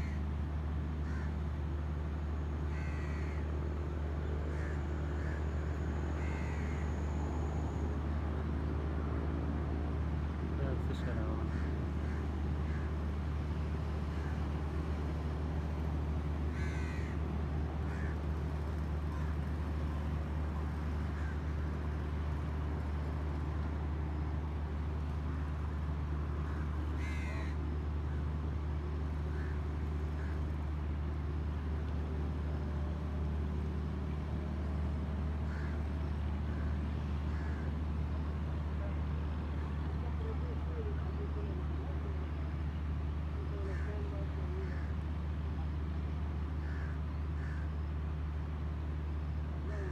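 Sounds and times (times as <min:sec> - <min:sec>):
vehicle engine drone: 0:00.0 - 0:49.9.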